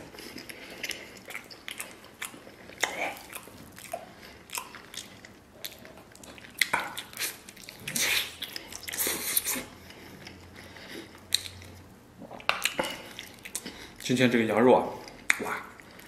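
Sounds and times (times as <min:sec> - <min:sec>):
person chewing meat off bone: 0:00.0 - 0:14.0.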